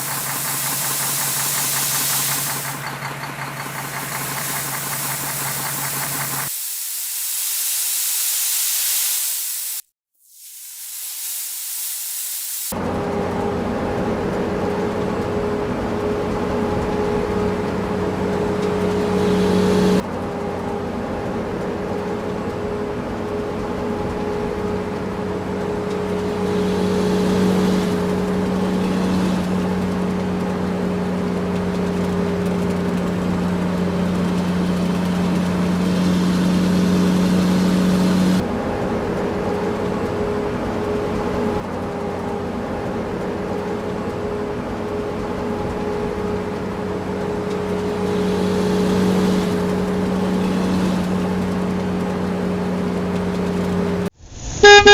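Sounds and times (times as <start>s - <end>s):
heavy machinery diesel engines running: 0.0s - 6.6s, 12.7s - 54.9s.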